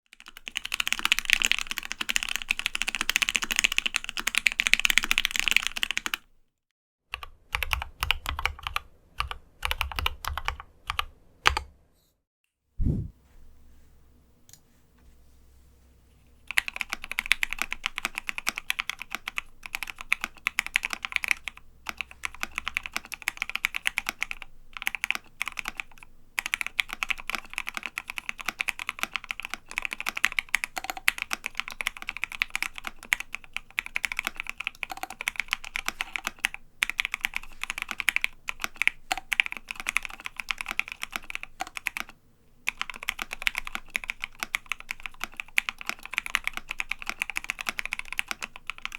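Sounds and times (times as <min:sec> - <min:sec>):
fast keyboard typing: 0:00.1 - 0:06.2, 0:07.1 - 0:11.7, 0:16.5 - 0:48.9.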